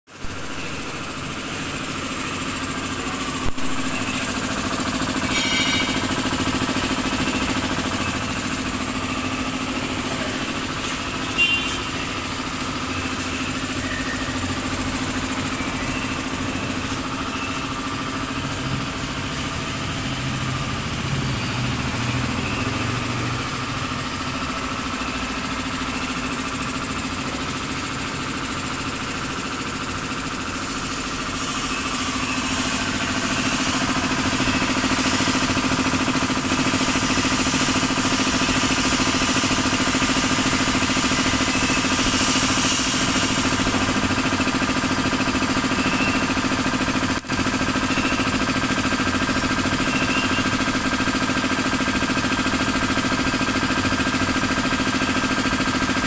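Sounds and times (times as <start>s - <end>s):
air compressor running: 0.1s - 56.0s.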